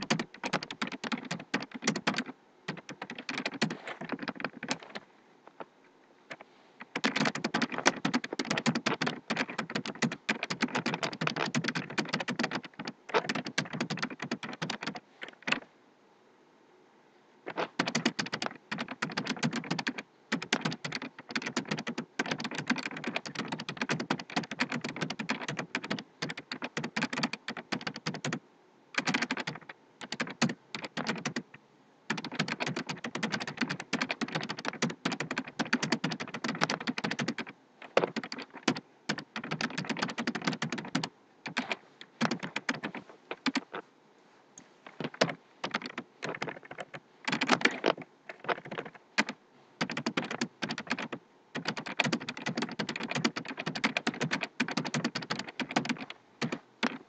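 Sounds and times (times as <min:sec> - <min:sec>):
fast typing on keyboard: 0:00.0 - 0:05.0, 0:06.3 - 0:15.6, 0:17.5 - 0:28.4, 0:29.0 - 0:43.8, 0:44.9 - 0:57.0.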